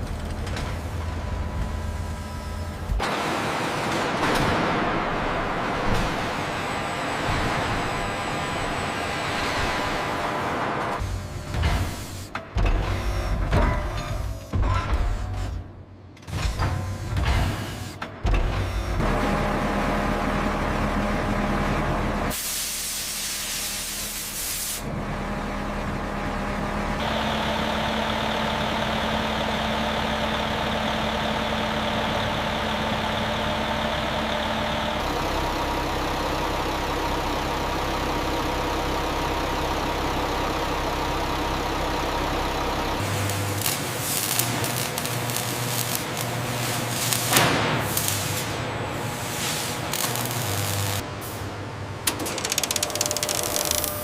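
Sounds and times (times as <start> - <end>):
industrial machinery humming: 0.0 - 54.0.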